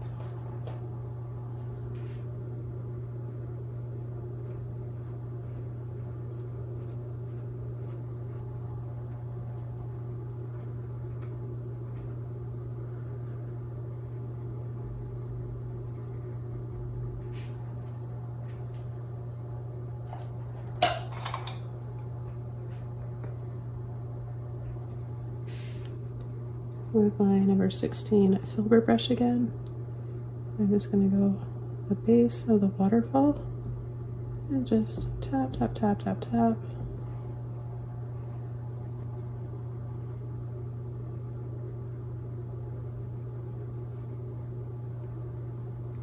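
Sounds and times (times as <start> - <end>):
low mechanical hum: 0.0 - 46.0.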